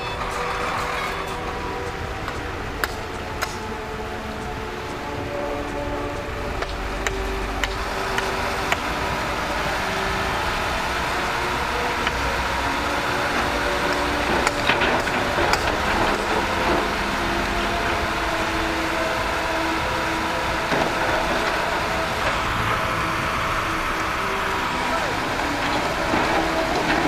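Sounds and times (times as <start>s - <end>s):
vehicle traffic: 0.0s - 27.0s.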